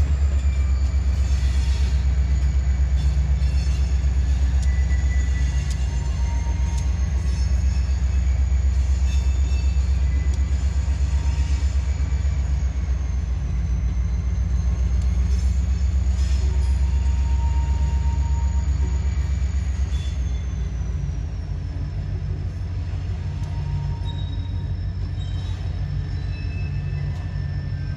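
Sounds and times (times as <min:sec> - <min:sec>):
freight train rumble: 0:00.0 - 0:27.9
high wheel squeal: 0:00.0 - 0:27.9.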